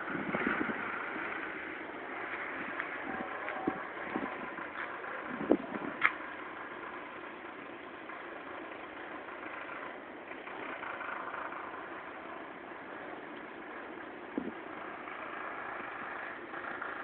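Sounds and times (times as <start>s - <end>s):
ship engine droning: 0.0s - 17.0s.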